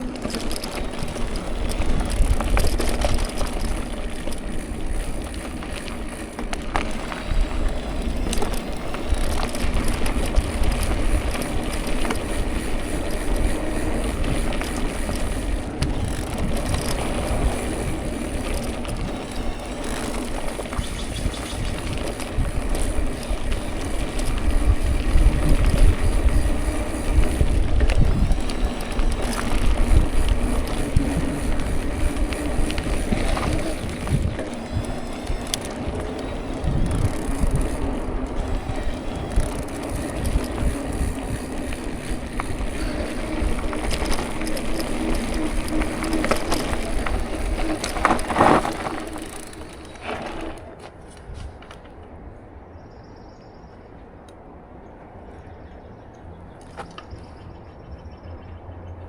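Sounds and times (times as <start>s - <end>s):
bicycle clicks and rattles: 0.0s - 52.2s, 56.6s - 57.5s
bicycle rolling: 0.0s - 53.6s.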